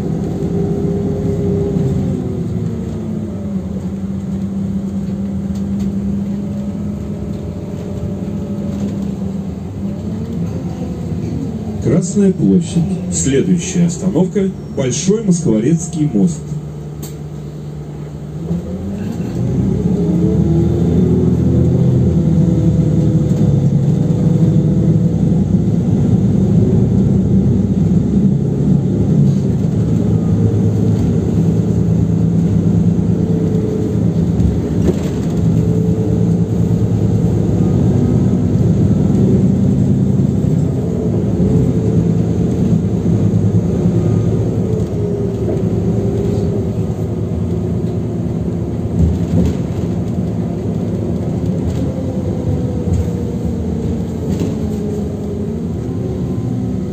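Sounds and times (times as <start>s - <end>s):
bus engine rumble: 0.0s - 56.9s.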